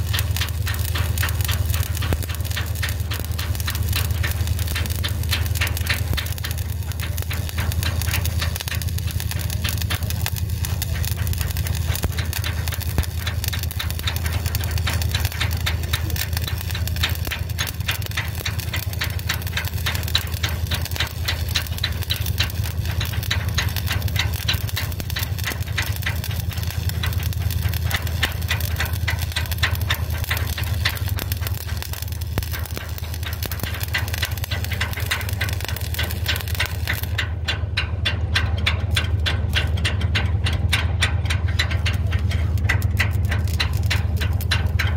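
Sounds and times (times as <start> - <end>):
steady low hum: 0.0 - 44.9
welding arc crackling: 0.0 - 44.9.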